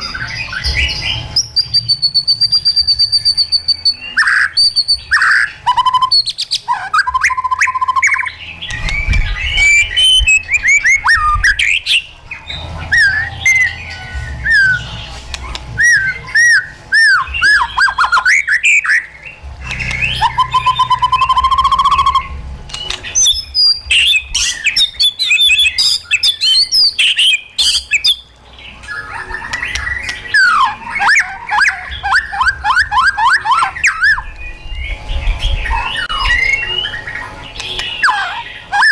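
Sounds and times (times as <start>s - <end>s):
bird singing whistled phrases: 0.0s - 12.1s, 12.9s - 15.0s, 15.8s - 38.9s.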